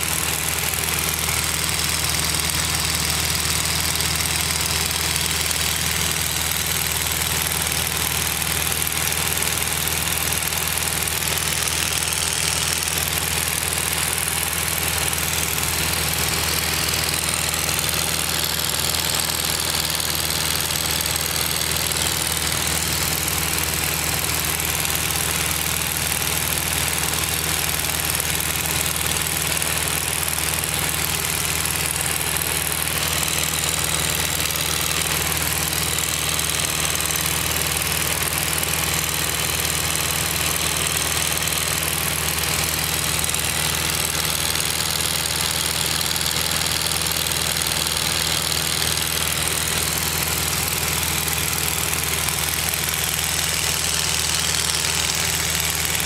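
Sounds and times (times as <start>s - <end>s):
small plane engine and propeller: 0.0s - 56.0s.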